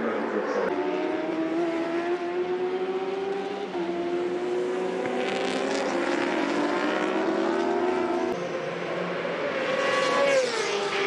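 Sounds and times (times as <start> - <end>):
pack of motorbikes passing: 0.0 - 11.0.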